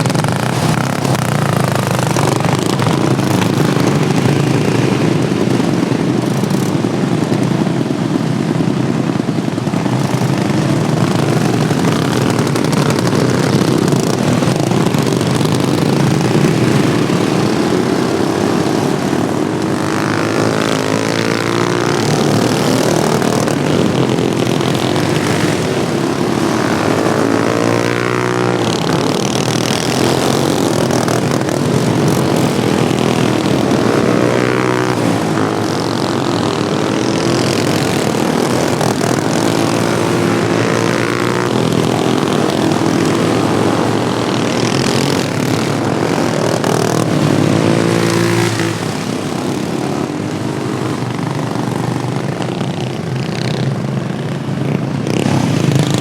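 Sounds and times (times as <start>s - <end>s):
racing lawnmower engines revving: 0.0s - 56.0s.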